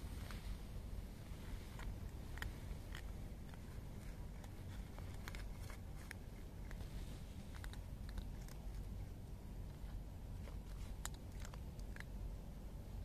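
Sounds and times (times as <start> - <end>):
low steady rumble: 0.0 - 13.0
cats crunching dry kibble: 1.4 - 12.4.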